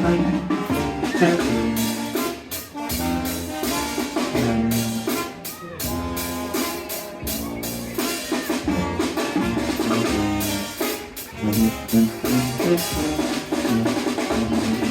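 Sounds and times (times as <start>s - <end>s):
drum kit beat: 0.0s - 14.9s
horns playing: 0.0s - 14.9s.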